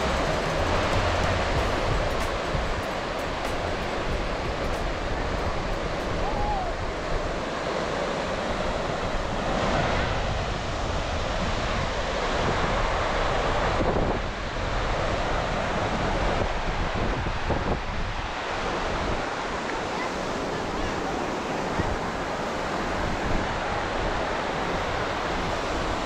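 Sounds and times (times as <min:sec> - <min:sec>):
surf washing onto beach: 0:00.0 - 0:26.0
wind buffeting microphone: 0:00.0 - 0:26.0.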